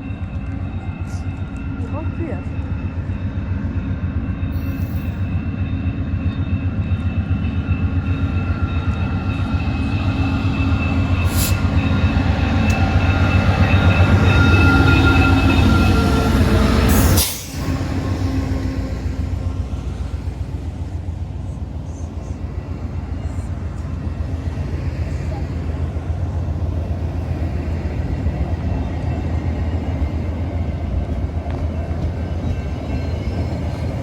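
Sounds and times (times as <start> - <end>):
freight train rumbling past: 0.0 - 34.0
high tones from train wheels: 0.0 - 34.0.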